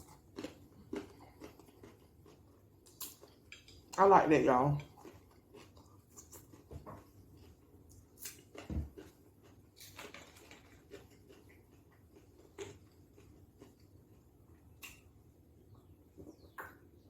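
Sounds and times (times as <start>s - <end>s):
chewing and crunching: 0.0s - 16.8s.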